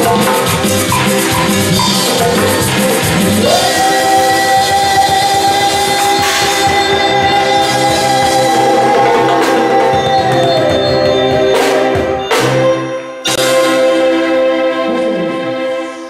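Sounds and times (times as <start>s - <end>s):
drum and cymbal hits: 0.0s - 14.2s
live band with accordion: 0.0s - 16.0s
other music: 0.0s - 16.0s.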